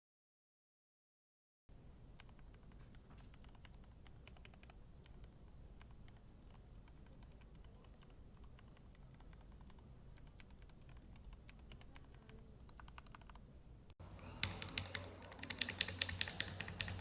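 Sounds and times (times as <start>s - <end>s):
faint mechanical keyboard typing: 2.1s - 13.5s, 14.2s - 17.0s.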